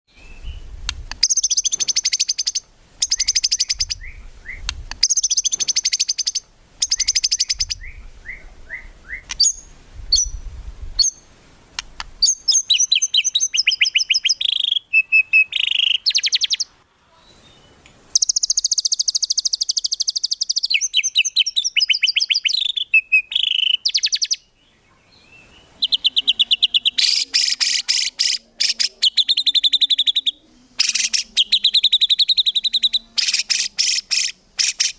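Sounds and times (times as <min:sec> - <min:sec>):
bird singing trills and whistles: 0:00.1 - 0:10.4, 0:12.2 - 0:34.9.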